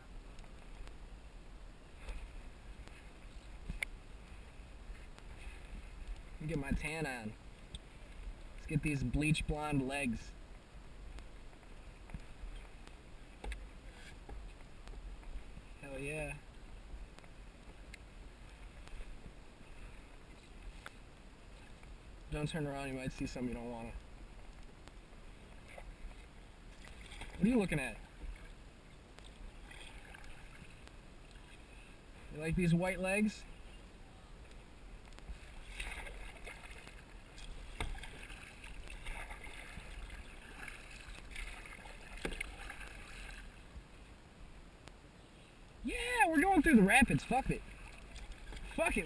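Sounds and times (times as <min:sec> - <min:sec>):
faint water and wind rumble: 0:00.0 - 0:49.0.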